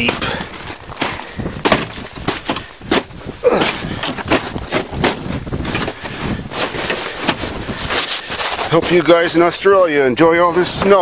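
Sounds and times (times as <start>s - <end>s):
knocks and rustles: 0.0s - 9.1s
snow crunching and scraping: 0.0s - 11.0s.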